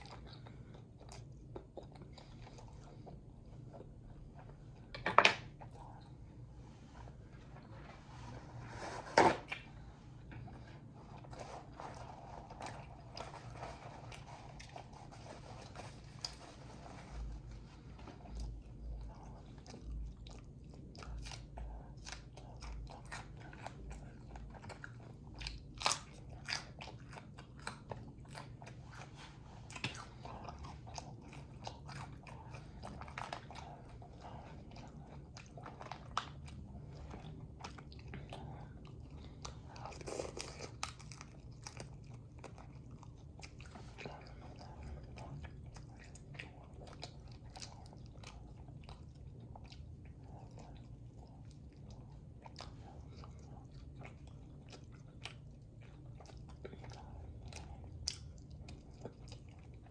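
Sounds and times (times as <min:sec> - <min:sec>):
person chewing and crunching: 0:00.0 - 0:59.9.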